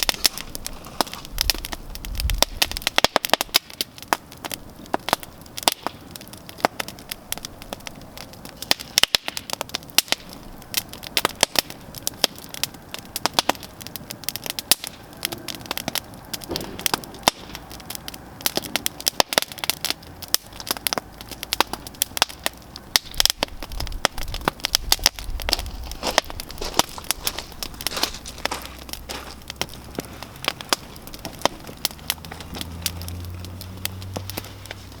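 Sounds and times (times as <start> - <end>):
campfire crackling: 0.0 - 35.0
fire pops and snaps: 0.0 - 35.0
hiss of burning: 0.0 - 35.0.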